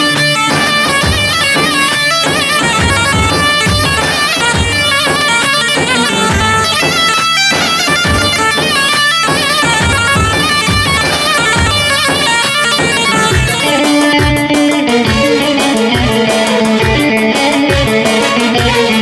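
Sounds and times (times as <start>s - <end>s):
reedy wind instrument melody: 0.0s - 19.0s
steady drum beat: 0.0s - 19.0s.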